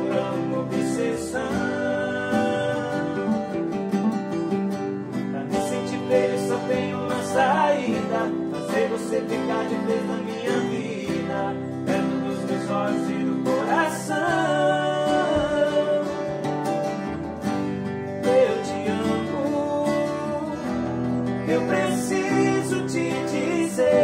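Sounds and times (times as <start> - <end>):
acoustic guitars strumming and picking: 0.0 - 24.0.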